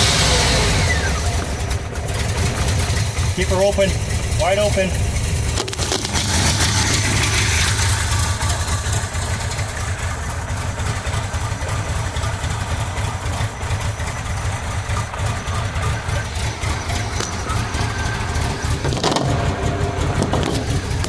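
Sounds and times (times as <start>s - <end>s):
engine running at full throttle: 0.0s - 21.0s.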